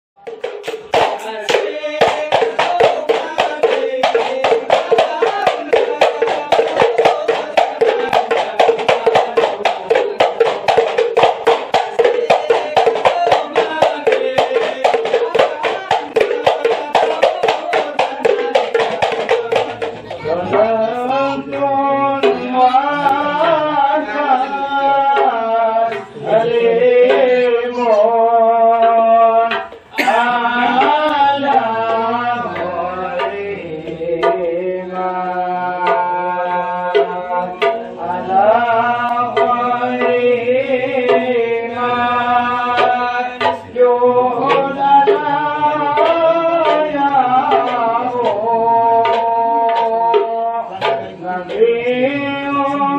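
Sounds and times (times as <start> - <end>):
frame drums beating fast: 0.2 - 52.9
men's chorus chanting in unison: 0.2 - 52.9.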